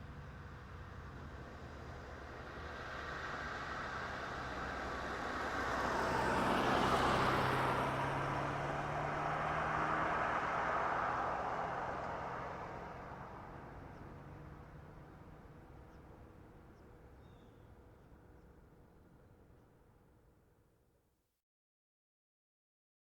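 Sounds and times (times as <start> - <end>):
car driving past: 0.0 - 18.5.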